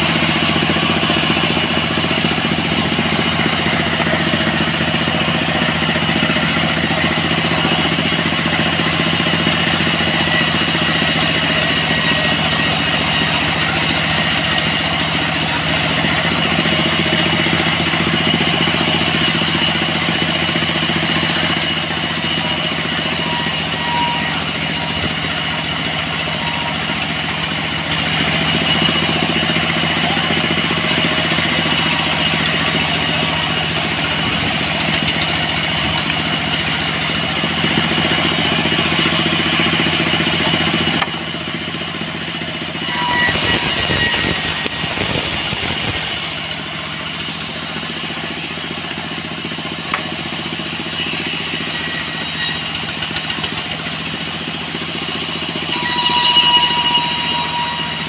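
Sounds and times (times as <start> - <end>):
portable sawmill cutting timber: 0.0 - 58.0.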